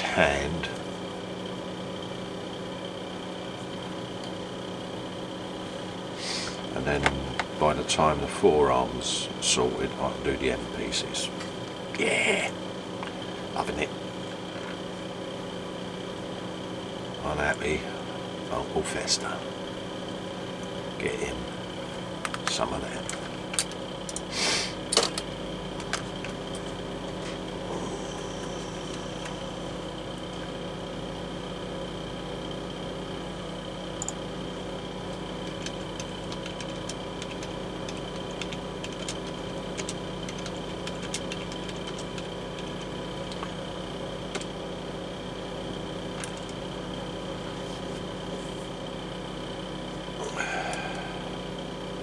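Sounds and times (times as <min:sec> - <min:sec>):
mechanical motor hum: 0:00.0 - 0:52.0.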